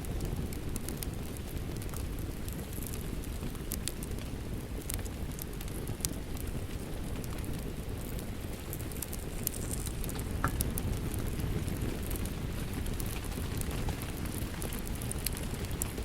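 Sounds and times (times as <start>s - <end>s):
wood fire crackling and popping: 0.0s - 16.0s
rain falling: 0.1s - 16.0s.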